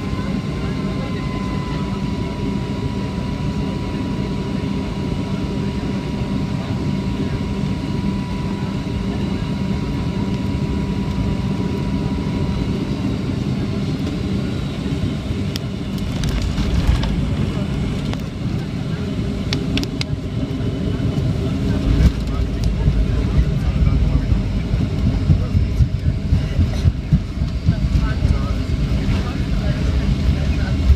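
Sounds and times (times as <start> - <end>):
engine and airflow rush: 0.0 - 30.9
faint engine whine: 0.0 - 30.9.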